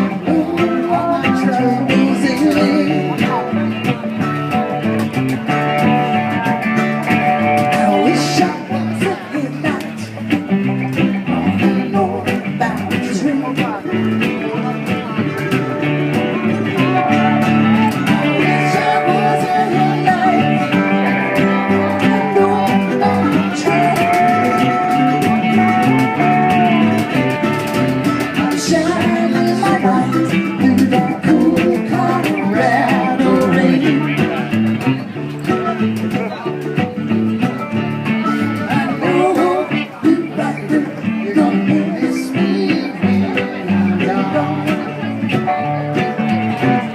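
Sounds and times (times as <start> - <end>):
acoustic band playing: 0.0 - 46.9
mandolin: 0.0 - 46.9
sustained melody line: 0.0 - 46.9.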